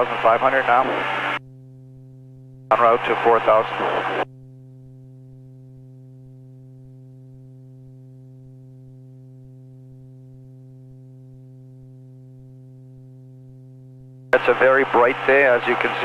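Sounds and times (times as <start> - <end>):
aircraft engine and propeller droning: 0.0 - 16.0.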